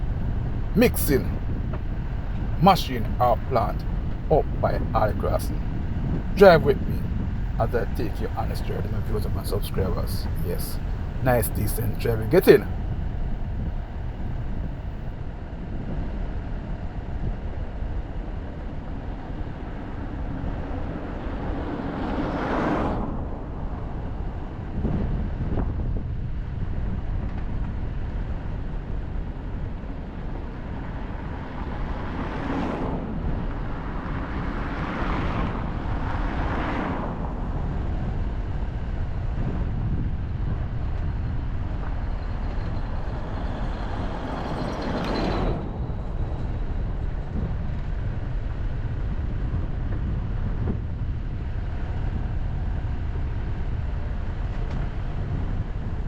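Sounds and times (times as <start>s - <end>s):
road and wind noise in a car: 0.0s - 56.0s.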